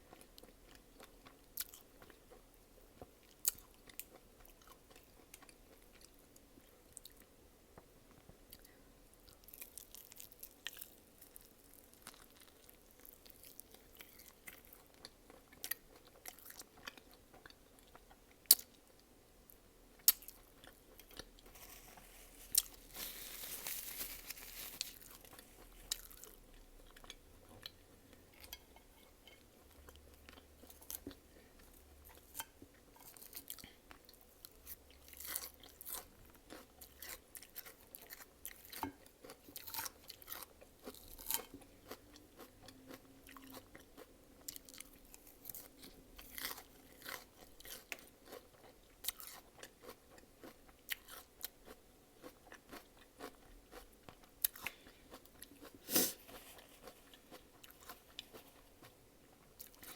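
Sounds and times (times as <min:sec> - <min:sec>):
person chewing and crunching food: 0:00.0 - 0:07.3, 0:08.1 - 0:59.9.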